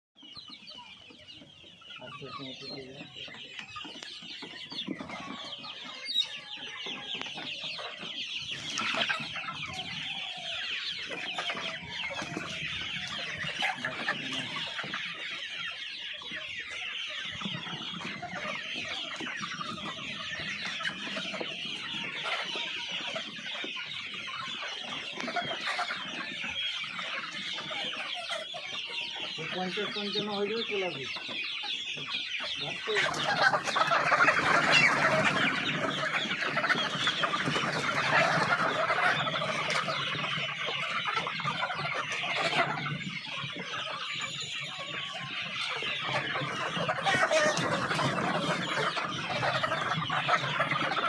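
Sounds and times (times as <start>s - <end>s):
chickens clucking: 0.2s - 51.0s.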